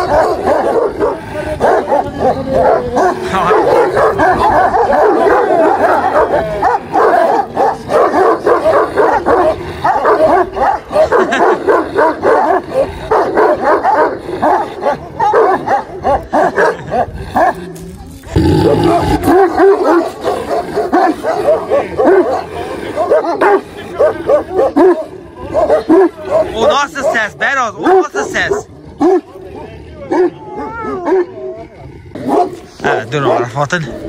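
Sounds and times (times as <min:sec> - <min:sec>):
large dogs barking: 0:00.0 - 0:34.0.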